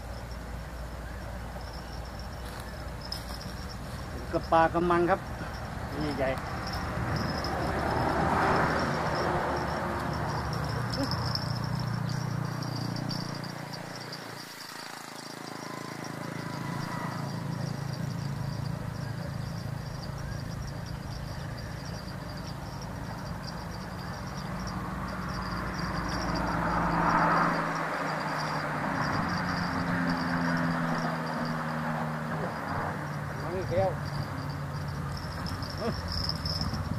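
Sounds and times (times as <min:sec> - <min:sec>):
high-pitched insect buzz: 0:00.0 - 0:36.9.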